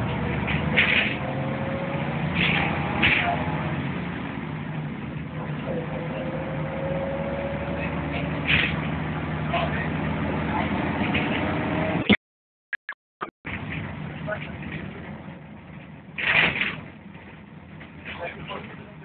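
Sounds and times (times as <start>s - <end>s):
bus diesel engine humming: 0.0s - 12.2s, 13.5s - 19.0s.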